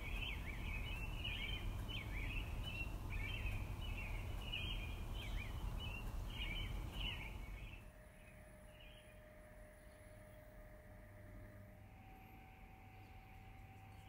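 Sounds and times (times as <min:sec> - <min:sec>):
faint steady hum: 0:00.0 - 0:14.0
low background rumble: 0:00.0 - 0:14.0
small birds chirping: 0:00.0 - 0:14.0.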